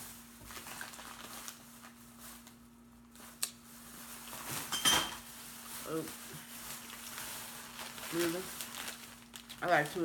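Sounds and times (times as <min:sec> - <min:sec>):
snack packaging rustling: 0:00.0 - 0:10.0.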